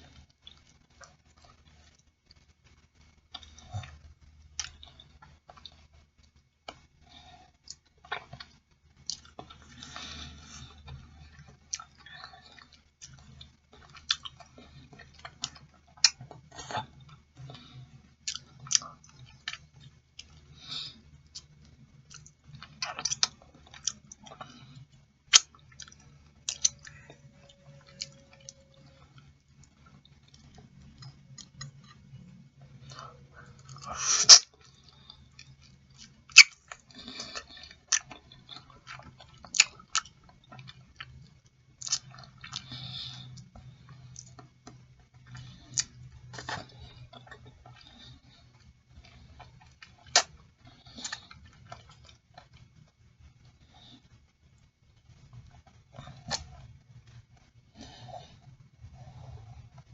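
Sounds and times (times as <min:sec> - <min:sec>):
person chewing: 0:00.1 - 0:57.2.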